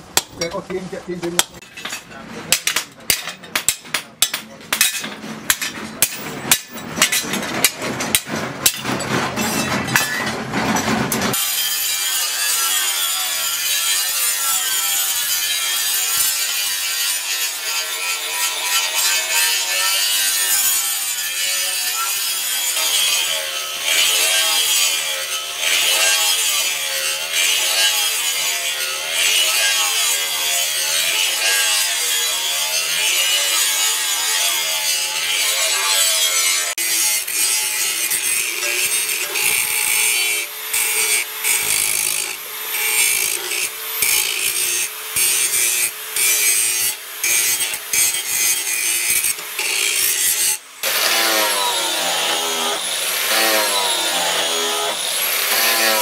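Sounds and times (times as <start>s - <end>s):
angle grinder grinding steel: 1.4s - 56.0s.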